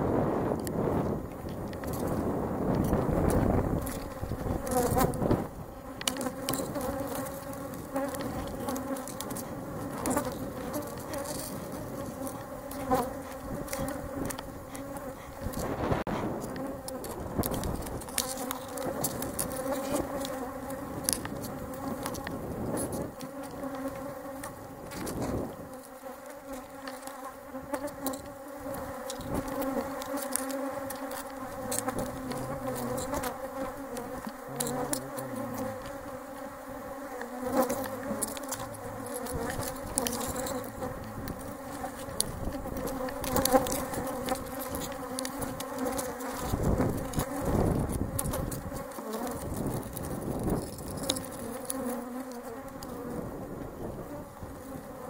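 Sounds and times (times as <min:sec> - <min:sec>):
bees buzzing: 0:00.1 - 0:55.0
hive tool clicking on wooden frames: 0:00.6 - 0:15.8, 0:16.4 - 0:53.1.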